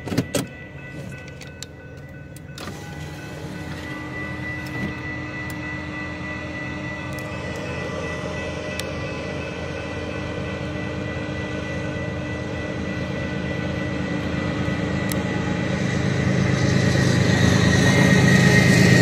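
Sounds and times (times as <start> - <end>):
crossing signals ringing: 0.0 - 19.0
diesel locomotive engine drone: 0.0 - 19.0.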